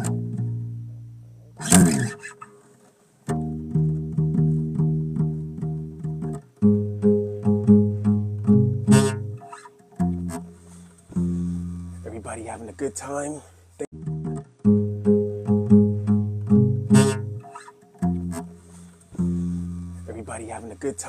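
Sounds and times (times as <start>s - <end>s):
bass guitar riff: 0.0s - 2.5s, 3.3s - 13.2s, 13.9s - 21.0s.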